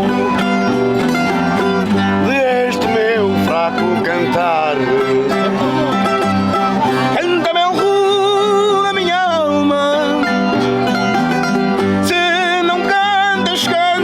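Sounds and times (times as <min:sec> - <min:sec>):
accordion: 0:00.0 - 0:14.0
plucked string instruments: 0:00.0 - 0:14.0
voices singing: 0:00.0 - 0:14.0.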